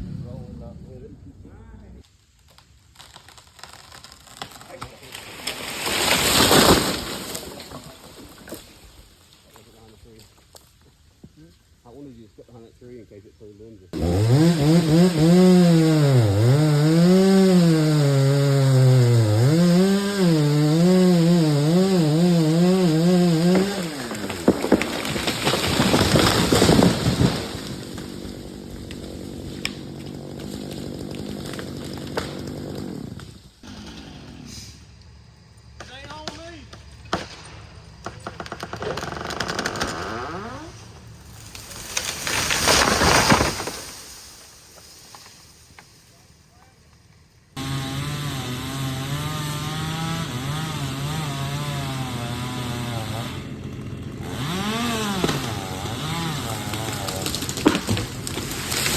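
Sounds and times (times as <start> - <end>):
chainsaw cutting wood: 3.0 - 8.8, 14.0 - 34.6, 36.0 - 45.9, 47.6 - 58.9.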